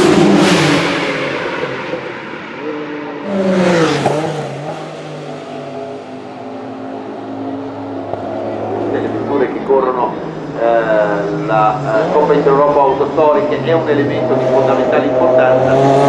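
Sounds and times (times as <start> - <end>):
race car engine passing: 0.0 - 16.0.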